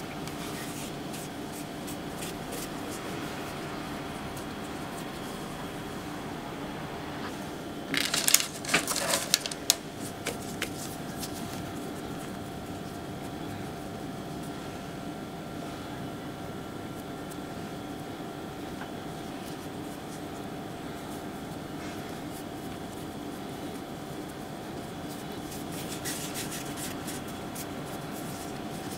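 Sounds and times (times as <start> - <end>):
faint hum: 0.0 - 28.9.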